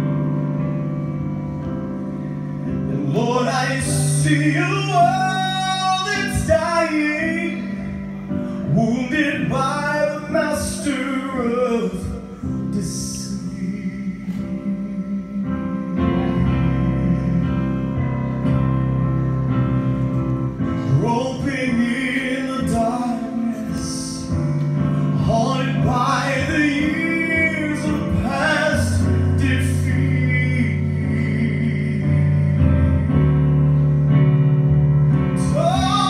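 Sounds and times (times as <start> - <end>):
slow gospel accompaniment: 0.0 - 36.0
man singing: 2.8 - 18.4, 20.7 - 33.9, 35.2 - 36.0.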